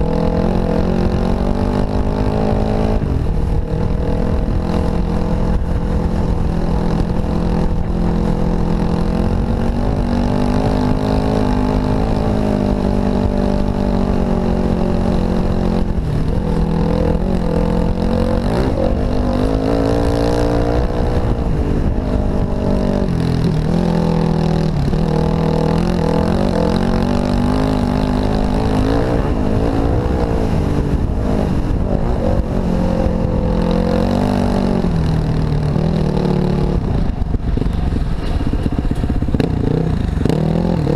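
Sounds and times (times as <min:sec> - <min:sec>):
dirt bike engine revving: 0:00.0 - 0:37.2, 0:38.3 - 0:40.9.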